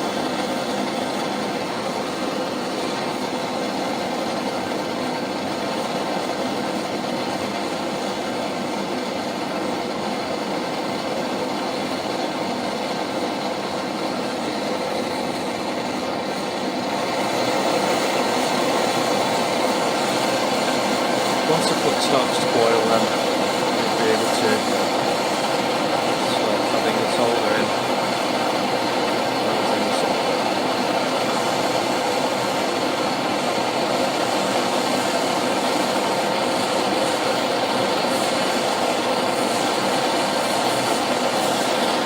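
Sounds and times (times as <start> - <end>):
blowtorch flame hissing: 0.0 - 42.0.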